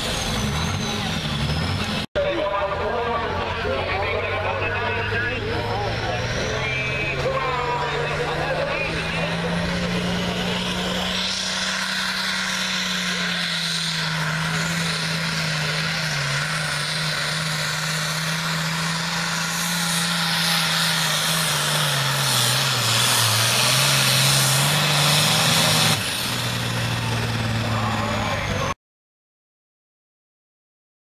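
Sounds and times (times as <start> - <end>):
diesel tractor engine under load: 0.0 - 28.8.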